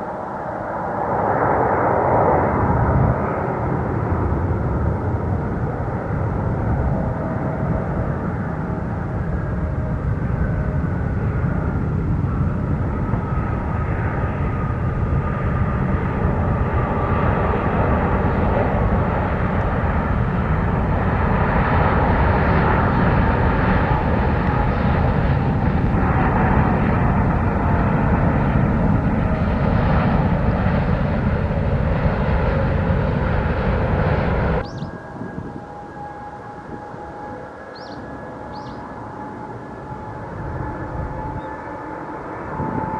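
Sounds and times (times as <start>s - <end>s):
jet engines rushing with whine: 0.0s - 42.9s.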